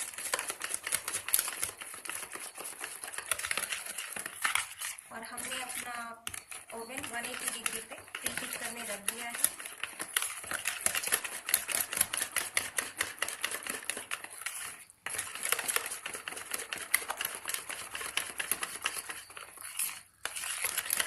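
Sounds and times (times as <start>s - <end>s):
utensil clicking against a bowl: 0.0s - 21.0s.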